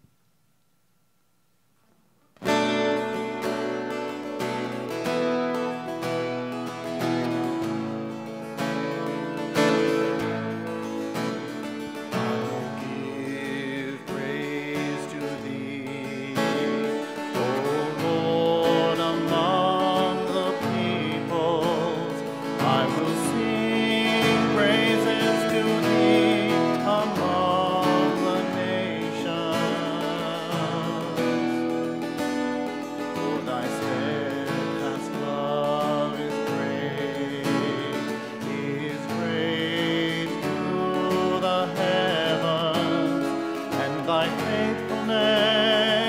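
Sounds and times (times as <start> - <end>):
acoustic guitar strumming: 2.4 - 46.0
person singing: 2.4 - 46.0.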